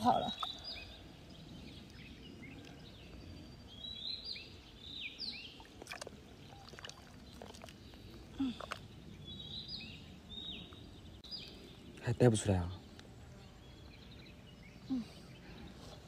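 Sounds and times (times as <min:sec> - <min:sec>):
birds chirping: 0:00.0 - 0:16.0
faint outdoor noise: 0:00.0 - 0:16.0.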